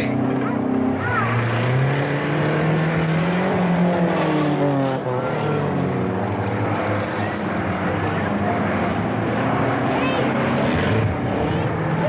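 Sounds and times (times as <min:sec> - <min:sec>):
engine and tyre noise: 0:00.0 - 0:12.0
racing car engines revving: 0:00.0 - 0:12.0.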